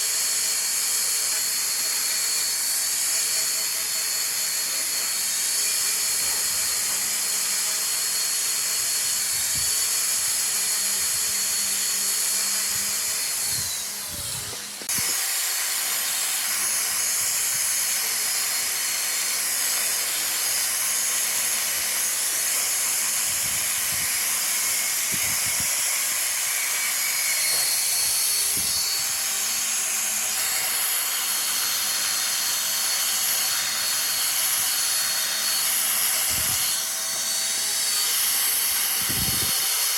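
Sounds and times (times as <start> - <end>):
tool hissing on spinning wood: 0.0 - 39.9
wood lathe motor whine: 0.0 - 39.9.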